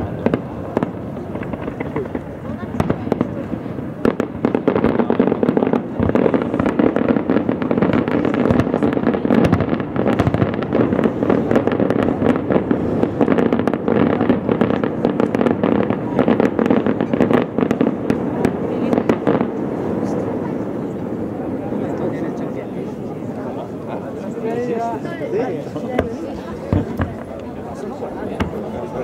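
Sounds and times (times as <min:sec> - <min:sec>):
distant fireworks bangs and crackles: 0:00.0 - 0:29.0.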